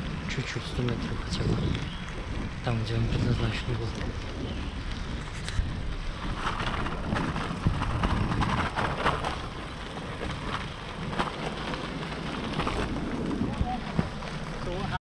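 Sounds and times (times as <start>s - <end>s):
bicycle rattles and clicks: 0.0s - 15.0s
rolling road noise: 0.0s - 15.0s
wind on microphone: 0.0s - 15.0s.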